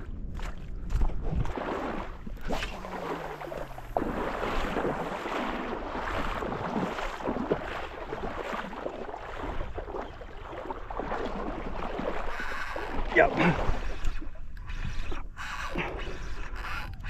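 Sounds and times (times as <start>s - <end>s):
seawater splashing and sloshing: 0.0s - 17.0s
wind buffeting microphone: 0.0s - 17.0s.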